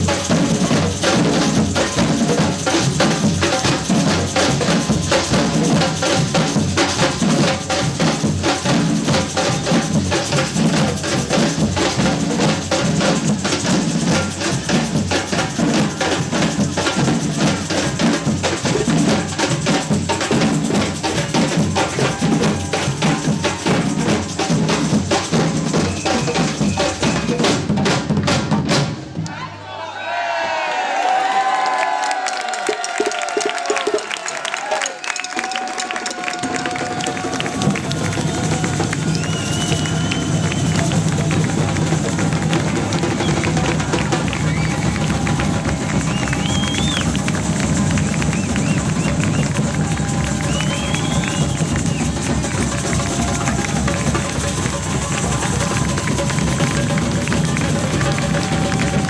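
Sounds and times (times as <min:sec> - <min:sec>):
percussion band drumming: 0:00.0 - 0:29.3, 0:32.3 - 0:59.0.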